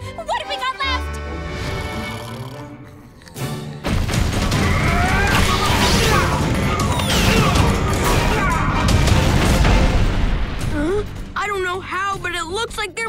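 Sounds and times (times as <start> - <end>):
action music: 0.0 - 13.0.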